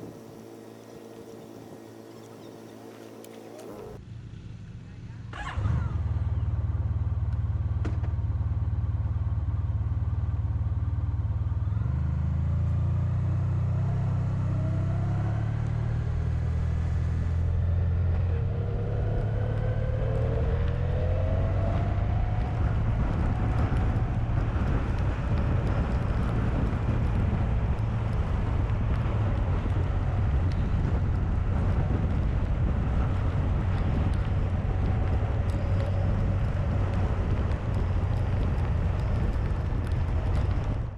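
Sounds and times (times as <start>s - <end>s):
motorcycle engine running: 0.0s - 14.6s, 15.9s - 40.9s
wind and road noise: 0.0s - 40.9s.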